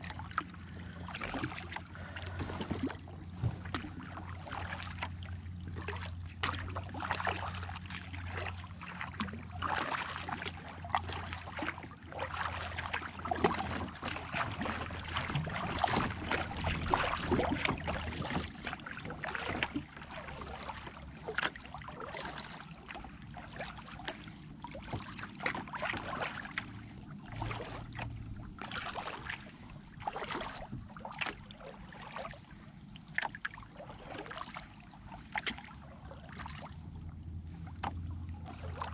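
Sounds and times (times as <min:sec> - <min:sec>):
paddle splashing in water: 0:00.0 - 0:38.9.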